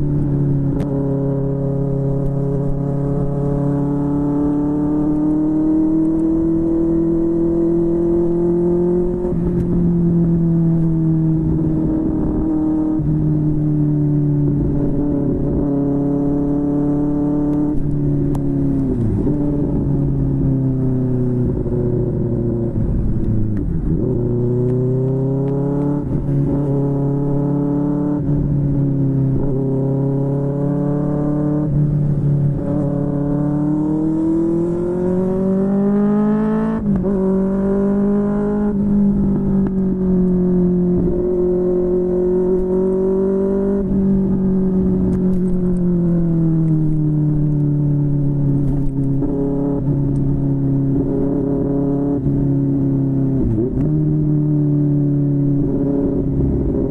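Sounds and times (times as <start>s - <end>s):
motorcycle engine revving while riding: 0.0s - 56.9s.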